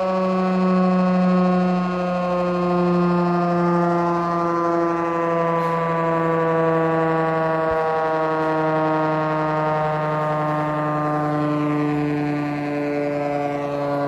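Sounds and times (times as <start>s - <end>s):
air-raid siren wailing: 0.0s - 14.0s.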